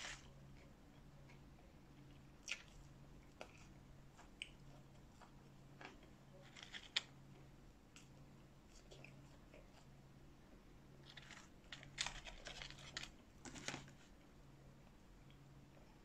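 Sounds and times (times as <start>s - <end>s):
chewing fries: 0.0s - 10.1s, 11.0s - 14.3s.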